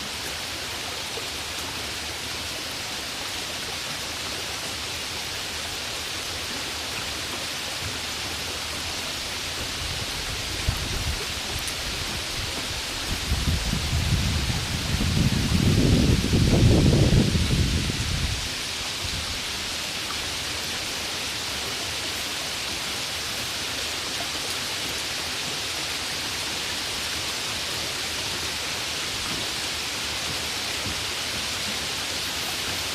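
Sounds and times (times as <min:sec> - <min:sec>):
heavy rain hiss: 0:00.0 - 0:32.9.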